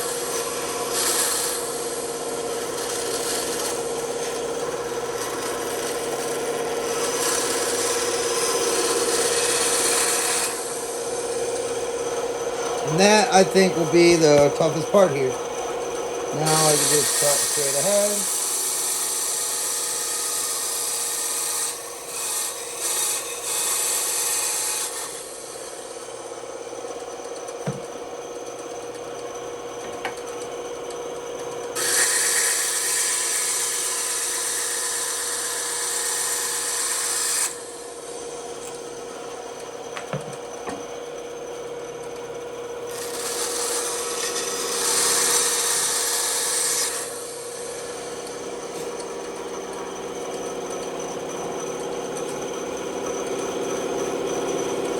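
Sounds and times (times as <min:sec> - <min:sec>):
bandsaw cutting wood: 0:00.0 - 0:28.0, 0:31.7 - 0:40.8, 0:42.6 - 0:54.9.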